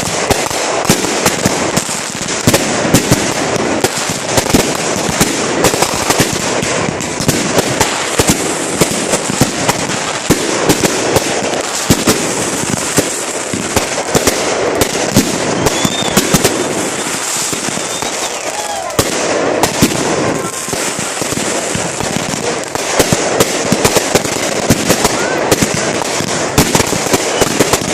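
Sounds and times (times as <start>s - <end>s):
fireworks crackling: 0.0s - 27.9s
fireworks popping: 0.0s - 27.9s.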